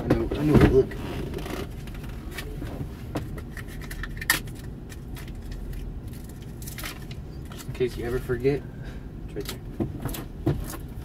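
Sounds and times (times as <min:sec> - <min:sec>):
van engine humming: 0:00.0 - 0:11.0.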